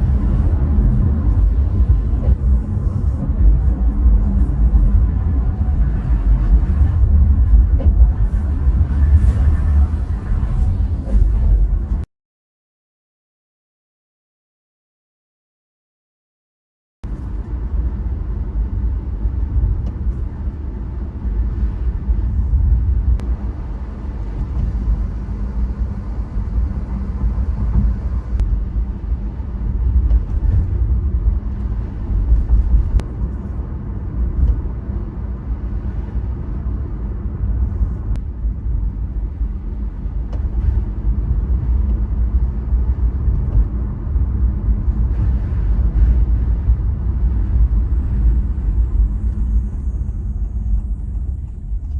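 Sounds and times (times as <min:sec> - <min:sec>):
road rumble in car cabin: 0:00.0 - 0:12.1, 0:17.0 - 0:51.9.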